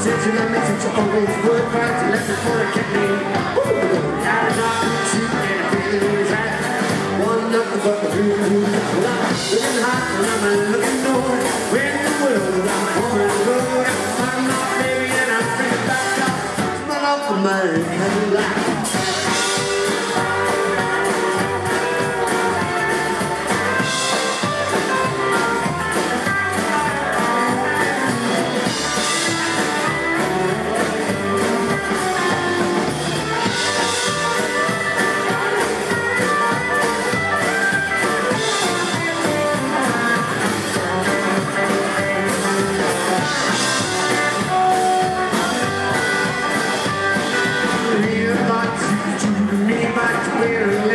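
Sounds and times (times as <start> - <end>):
plucked upright double bass: 0.0 - 16.8, 17.8 - 50.9
drum kit: 0.0 - 50.9
electric lead guitar: 0.0 - 50.9
strummed acoustic guitar: 0.0 - 50.9.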